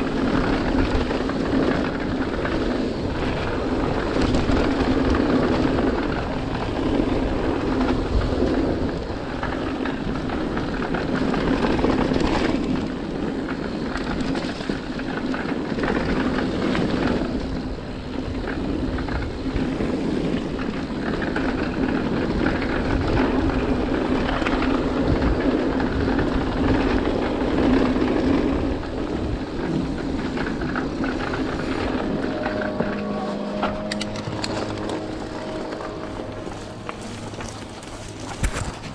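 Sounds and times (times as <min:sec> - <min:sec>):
bike tyres rumbling on trail: 0:00.0 - 0:38.9
wind on microphone: 0:00.0 - 0:38.9.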